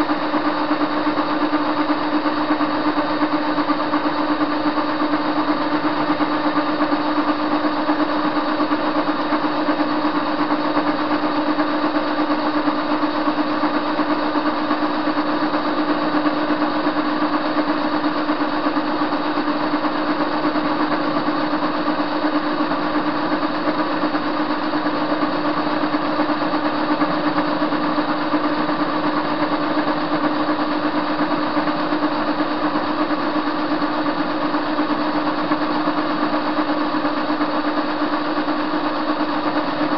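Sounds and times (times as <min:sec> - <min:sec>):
metal lathe humming: 0:00.0 - 0:39.9
motor and gearing whine: 0:00.0 - 0:39.9.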